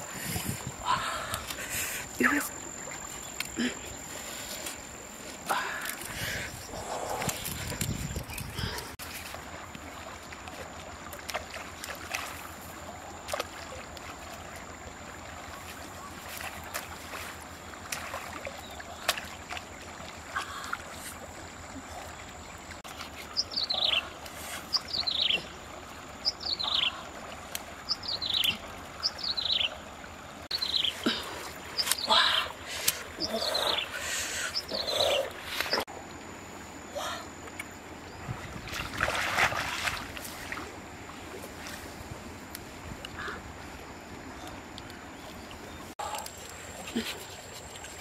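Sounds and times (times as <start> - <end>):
flowing river water: 0.0 - 48.0.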